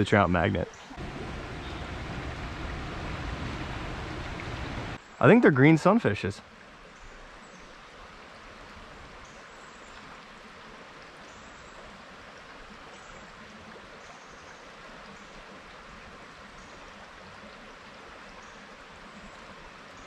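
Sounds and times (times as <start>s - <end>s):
mountain stream running: 0.0s - 20.0s.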